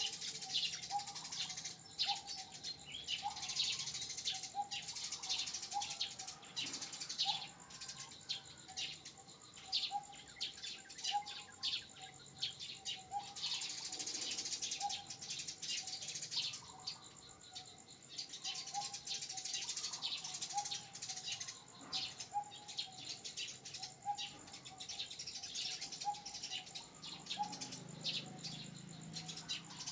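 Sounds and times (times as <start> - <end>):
birds chirping and twittering: 0.0 - 29.9.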